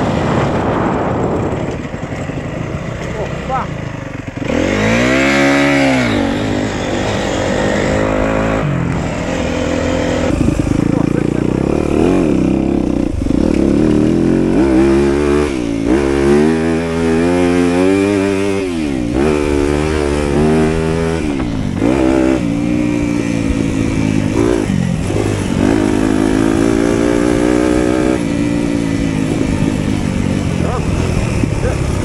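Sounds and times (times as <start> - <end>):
motocross bike engine revving: 0.0 - 32.0.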